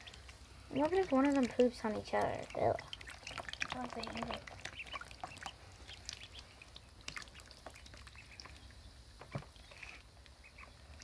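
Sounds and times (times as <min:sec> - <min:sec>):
small water splashes: 0:00.0 - 0:10.0
ducklings peeping: 0:00.0 - 0:11.0.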